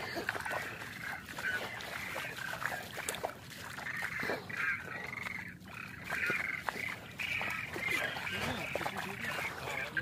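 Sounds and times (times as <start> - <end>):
duck-like quacking calls: 0.0 - 10.0
water sloshing: 0.0 - 10.0.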